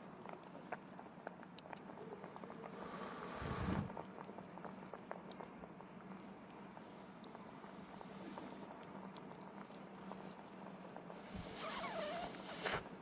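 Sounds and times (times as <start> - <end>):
campfire crackling and simmering: 0.0 - 13.0
steady low hum: 0.0 - 13.0.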